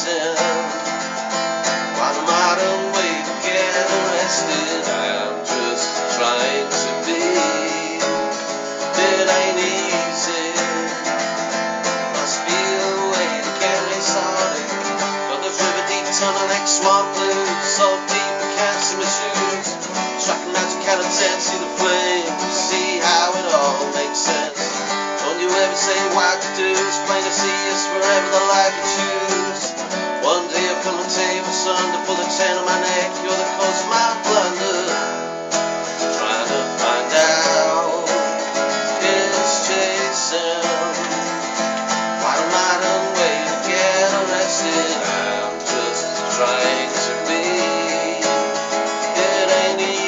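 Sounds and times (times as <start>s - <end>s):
acoustic guitar strummed and picked: 0.0s - 50.0s
person singing folk song: 0.0s - 50.0s.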